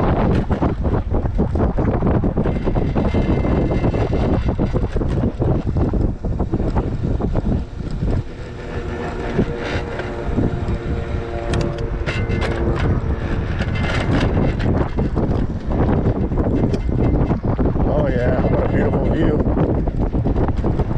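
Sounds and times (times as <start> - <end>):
rumbling road noise: 0.0 - 20.9
wind buffeting microphone: 0.0 - 20.9
steady hum: 1.6 - 19.6.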